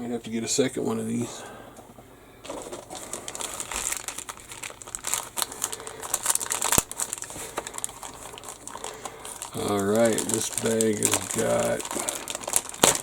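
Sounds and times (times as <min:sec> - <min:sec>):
plastic bag crinkling: 0:02.4 - 0:13.0.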